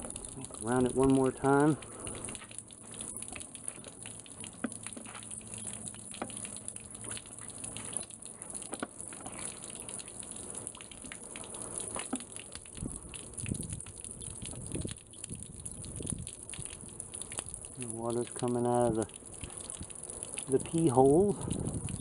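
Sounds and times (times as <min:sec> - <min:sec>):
small clicks and spatters: 0:00.0 - 0:22.0
water splashing and gurgling: 0:00.0 - 0:22.0.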